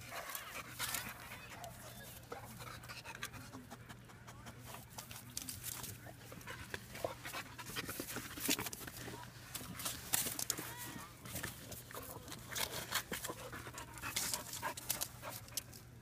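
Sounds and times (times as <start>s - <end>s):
puppy panting and sniffing: 0.0s - 16.0s.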